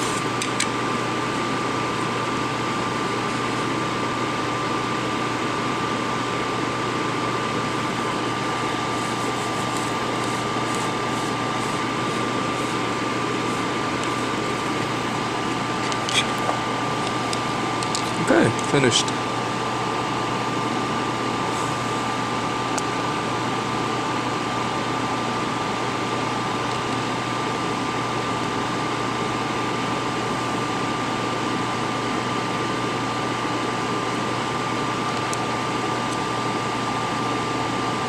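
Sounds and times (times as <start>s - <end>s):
constant whine: 0.0s - 38.0s
fan-like hum and hiss: 0.0s - 38.0s.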